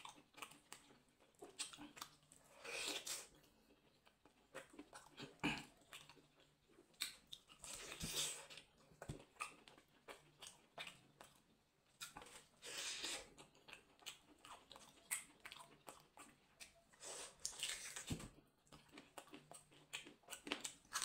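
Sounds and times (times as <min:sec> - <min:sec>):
chewing chicken with crunches: 0:00.0 - 0:21.0.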